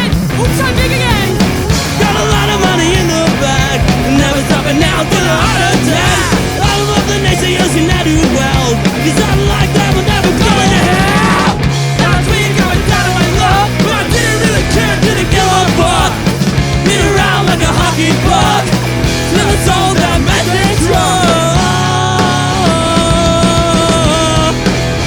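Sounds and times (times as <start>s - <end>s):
live punk rock band: 0.0s - 25.0s.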